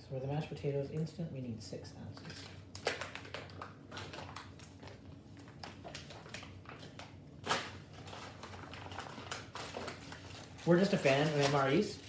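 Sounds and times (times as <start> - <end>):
ration pouches rustling: 2.2 - 12.0.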